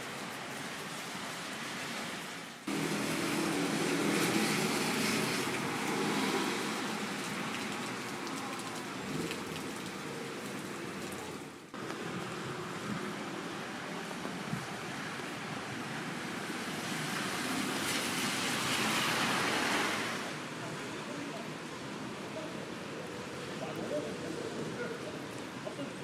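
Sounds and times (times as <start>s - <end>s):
rain falling on street: 0.0s - 26.0s
tyres hissing on wet road: 0.0s - 26.0s.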